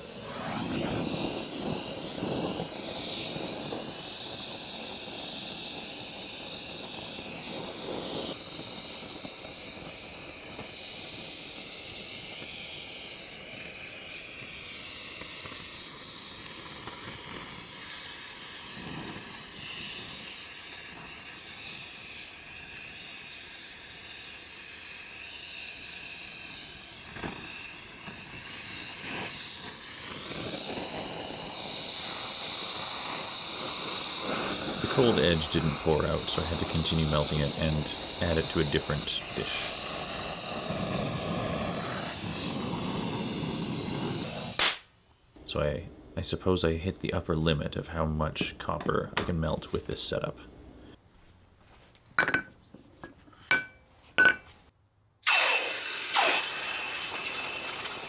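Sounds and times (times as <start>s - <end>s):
torch flame hissing: 0.0s - 51.0s, 55.2s - 58.0s.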